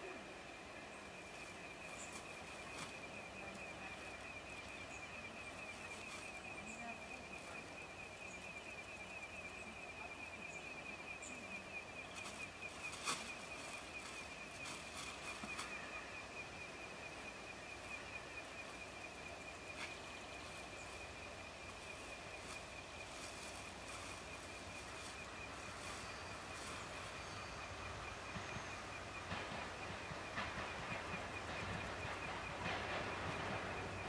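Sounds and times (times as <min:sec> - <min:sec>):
diesel train low rumble: 0:00.0 - 0:34.0.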